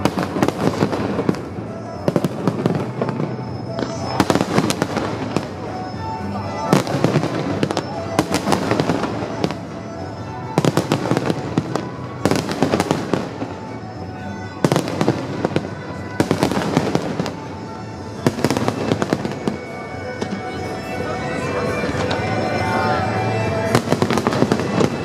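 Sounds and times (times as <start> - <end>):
fireworks bursting and crackling: 0.0 - 21.0, 21.7 - 25.0.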